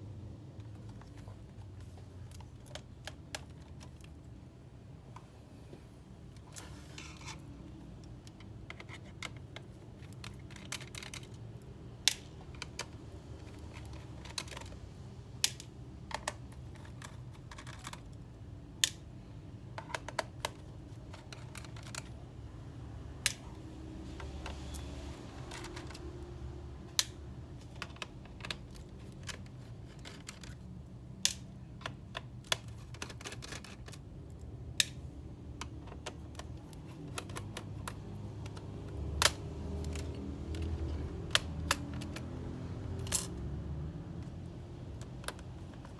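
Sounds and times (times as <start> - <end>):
tools clicking on laptop parts: 0.6 - 4.4, 6.3 - 22.3, 23.1 - 45.9.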